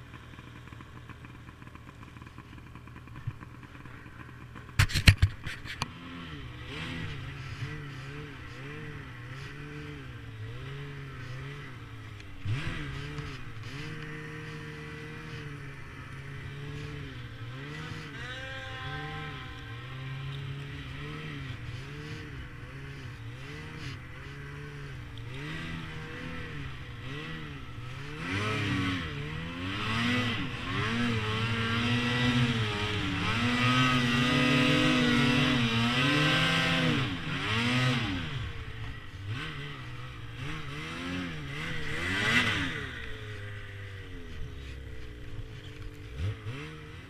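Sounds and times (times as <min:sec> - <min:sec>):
snowmobile engine revving: 0:00.0 - 0:47.0.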